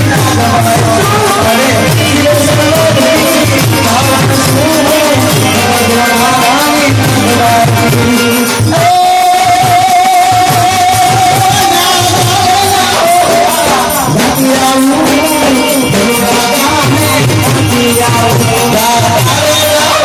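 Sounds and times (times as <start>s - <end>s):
devotional folk melody: 0.0s - 20.0s
steady drum beat: 0.0s - 20.0s.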